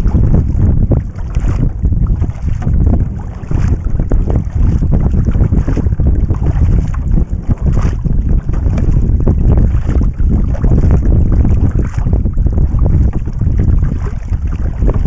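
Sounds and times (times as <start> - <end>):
paddle splashing in water: 0.0 - 15.0
wind buffeting microphone: 0.0 - 15.0.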